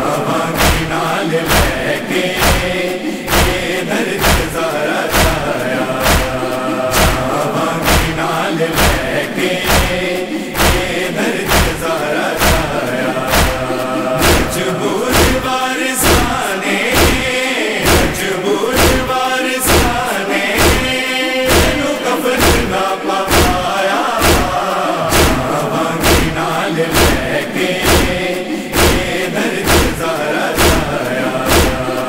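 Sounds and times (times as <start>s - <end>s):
men chanting in chorus: 0.0s - 32.0s
chest-beating thuds: 0.3s - 32.0s.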